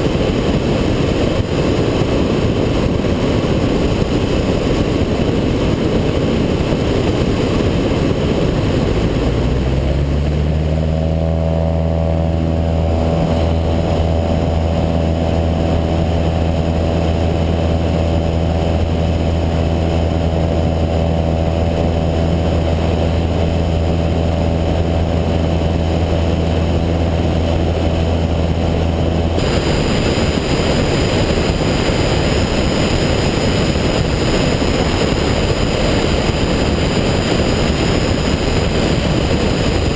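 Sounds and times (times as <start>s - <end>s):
airplane engine and propeller: 0.0s - 39.9s
wind rushing over microphone: 0.0s - 39.9s.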